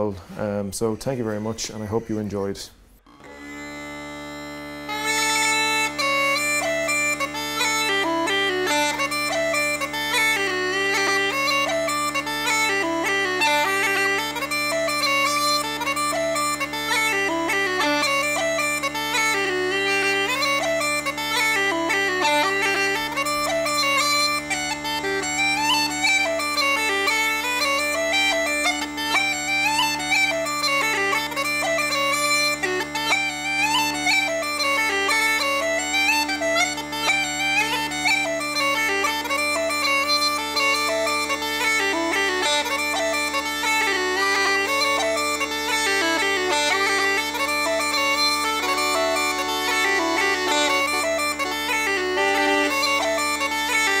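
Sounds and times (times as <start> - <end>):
pipe chanter jig melody: 0.0 - 54.0.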